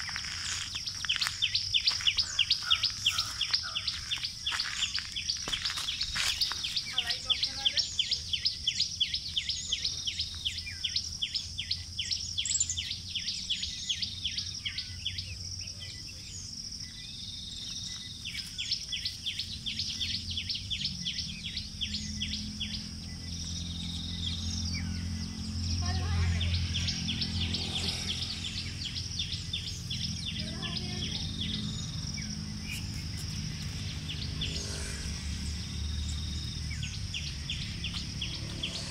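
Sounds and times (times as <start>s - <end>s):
birds chirping: 0.0s - 38.9s
high insect drone: 0.0s - 38.9s.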